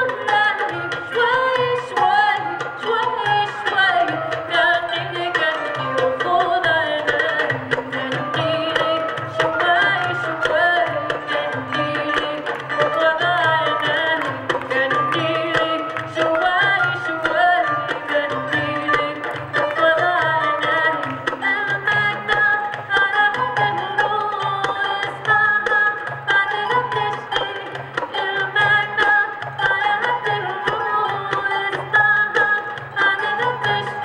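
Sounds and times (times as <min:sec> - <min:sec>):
plucked string instrument: 0:00.0 - 0:34.0
qanun melody: 0:00.0 - 0:34.0.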